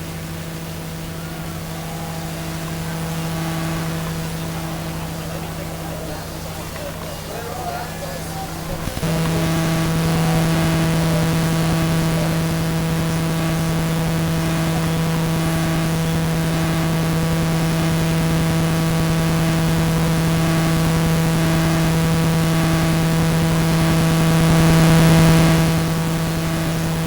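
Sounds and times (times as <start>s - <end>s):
constant hiss: 0.0s - 27.0s
steady electrical buzz: 0.0s - 27.0s.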